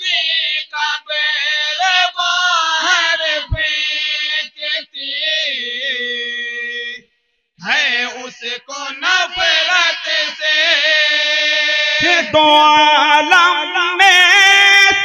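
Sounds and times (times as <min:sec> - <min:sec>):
men chanting together: 0:00.0 - 0:05.9, 0:07.6 - 0:15.0.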